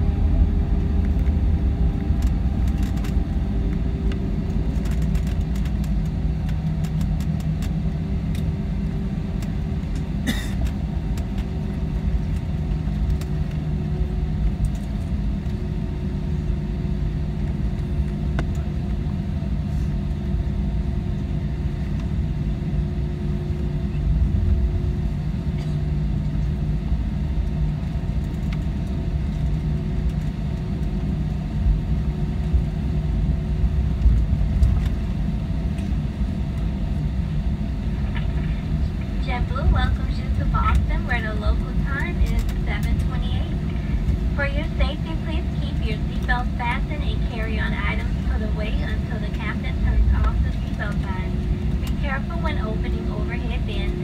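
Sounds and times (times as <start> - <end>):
airliner cabin rumble: 0.0 - 54.0
engine hum: 0.0 - 54.0.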